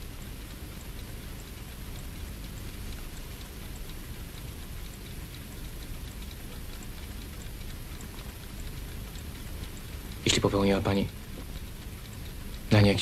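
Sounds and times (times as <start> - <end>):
faint high ticks: 0.0 - 13.0.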